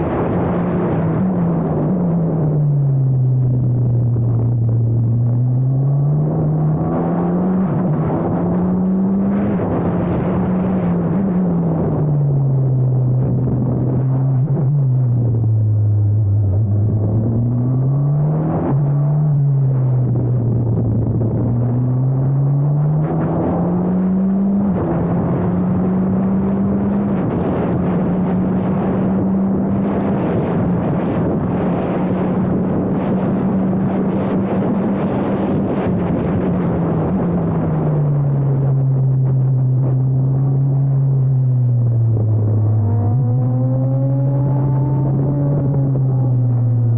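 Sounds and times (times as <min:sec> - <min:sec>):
racing car engine revving: 0:03.6 - 0:15.5, 0:16.2 - 0:46.9.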